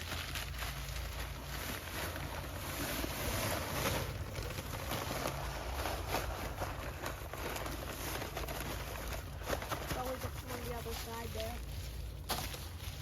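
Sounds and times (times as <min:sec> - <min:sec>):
dry concrete mix pouring: 0:00.0 - 0:13.0.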